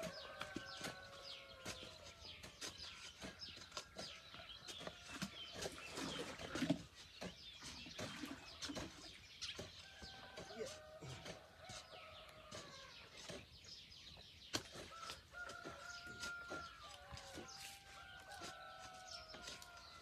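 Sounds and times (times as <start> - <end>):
birds chirping: 0.0 - 20.0
buckets knocking and clattering: 0.0 - 20.0
chickens calling: 0.0 - 20.0.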